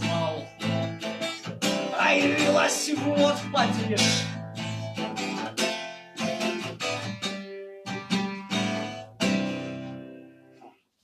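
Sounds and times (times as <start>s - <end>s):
acoustic guitar strumming: 0.0s - 10.8s.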